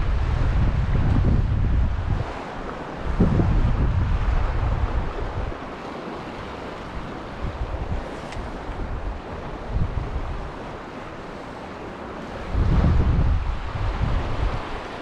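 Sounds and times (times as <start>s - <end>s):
wind buffeting microphone: 0.0s - 15.0s
river water rushing: 1.6s - 15.0s.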